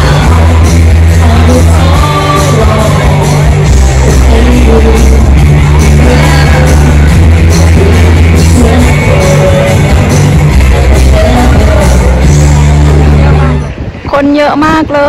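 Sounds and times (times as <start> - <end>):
person singing: 0.0 - 13.7
band playing pop music: 0.0 - 14.0.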